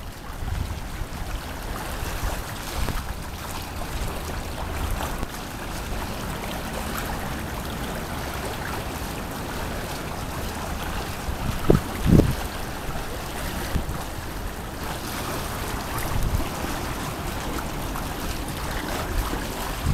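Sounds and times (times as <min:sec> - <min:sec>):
river water flowing: 0:00.0 - 0:19.9.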